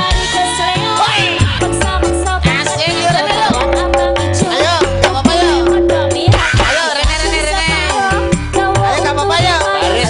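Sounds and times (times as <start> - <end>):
live band with bass and drums: 0.0 - 10.0
woman singing: 0.0 - 10.0.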